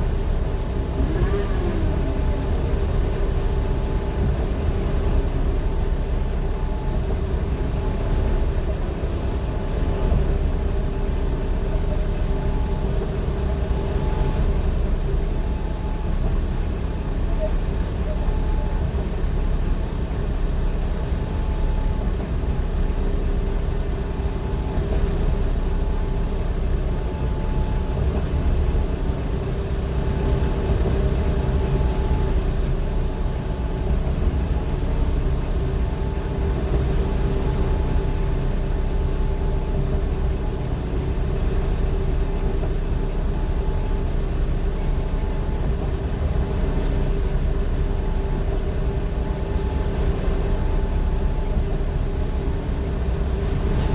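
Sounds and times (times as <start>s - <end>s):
vehicle engine and road rumble: 0.0s - 53.9s.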